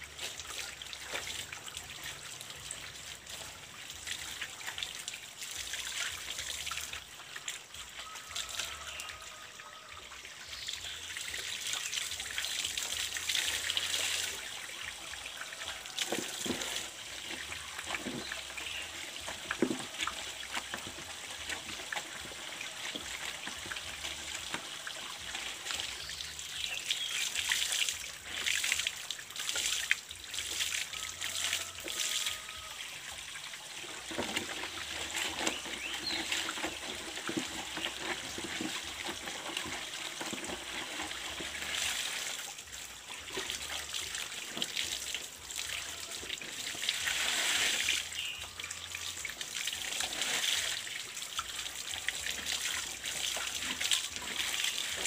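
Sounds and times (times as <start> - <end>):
water trickling from a pipe: 0.0 - 55.0.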